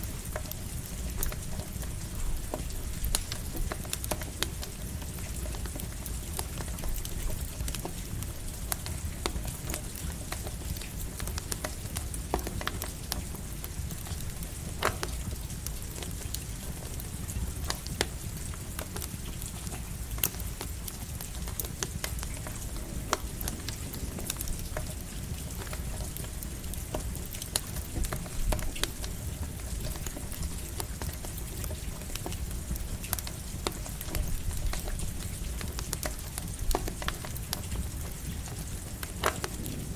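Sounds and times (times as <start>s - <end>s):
campfire crackling and popping: 0.0s - 39.9s
light rain hiss: 0.0s - 39.9s.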